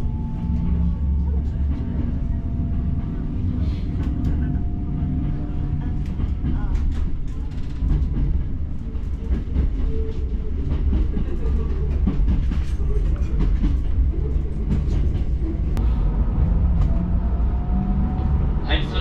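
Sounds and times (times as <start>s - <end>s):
train rumble with wheel clicks: 0.0s - 19.0s.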